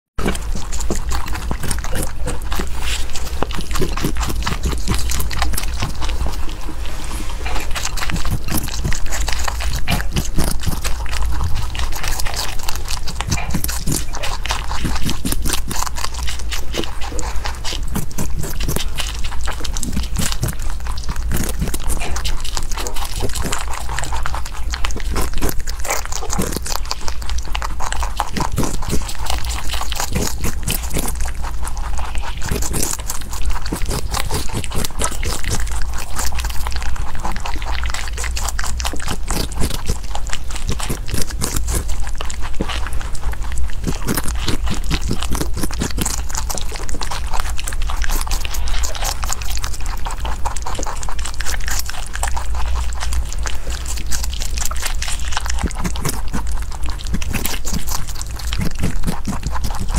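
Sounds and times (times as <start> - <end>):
rabbit crunching food: 0.2 - 59.9.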